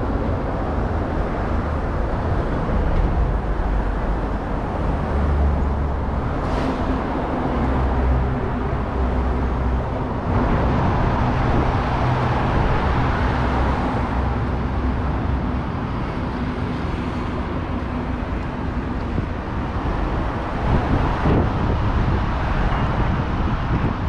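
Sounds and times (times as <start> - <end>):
engine hum: 0.0 - 24.0
rumble of passing vehicles: 0.0 - 24.0.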